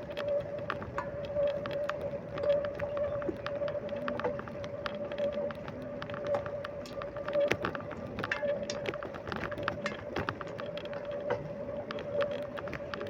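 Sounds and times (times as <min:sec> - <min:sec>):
bicycle being ridden: 0:00.0 - 0:13.0.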